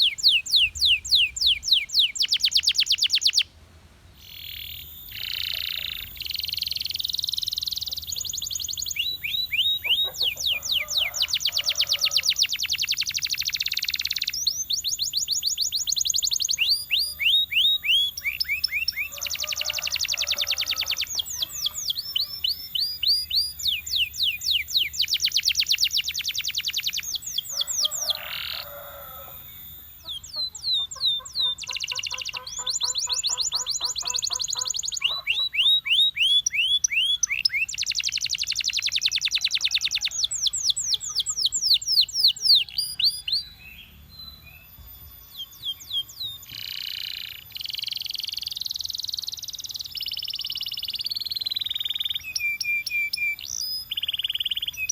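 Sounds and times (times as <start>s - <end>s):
canary singing trills: 0.0s - 3.5s, 4.2s - 54.9s.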